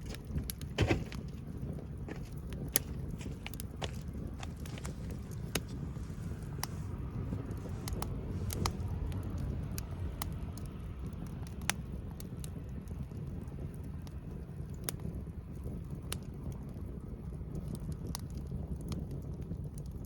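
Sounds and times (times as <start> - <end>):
low rumble: 0.0 - 19.5
campfire crackling: 0.0 - 20.0.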